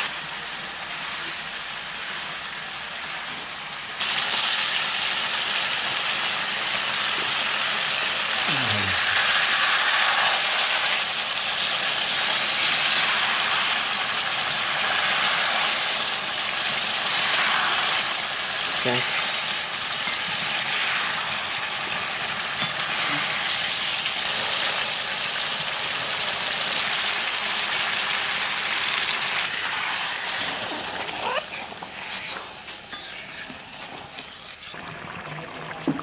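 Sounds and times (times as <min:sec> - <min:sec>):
curry sizzling in a pan: 0:00.0 - 0:36.0.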